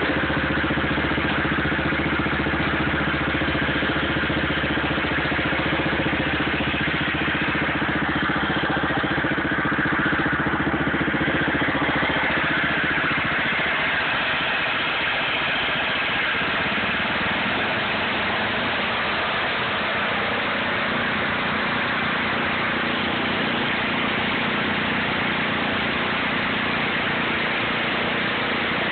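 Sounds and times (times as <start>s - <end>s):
garden tractor engine running: 0.0s - 28.9s.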